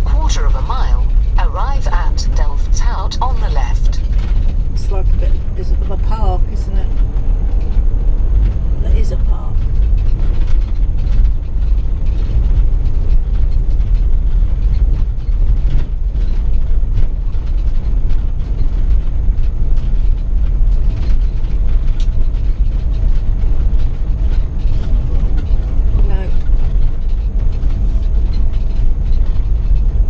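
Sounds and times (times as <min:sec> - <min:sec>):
road rumble inside vehicle: 0:00.0 - 0:30.0.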